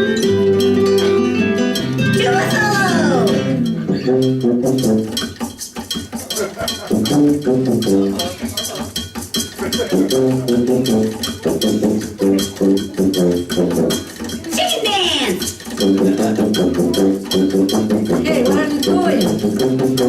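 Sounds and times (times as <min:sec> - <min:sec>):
upbeat instrumental music: 0:00.0 - 0:20.0
fast clicking beat: 0:01.8 - 0:20.0.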